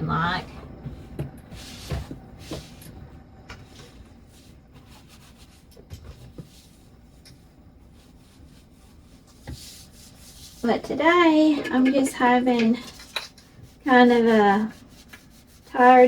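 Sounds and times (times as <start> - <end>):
soft rubbing: 0.4 - 16.0.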